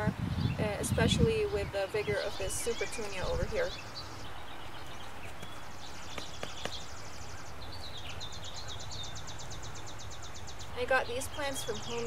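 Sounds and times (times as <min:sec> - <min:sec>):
outdoor background: 0:00.0 - 0:12.0.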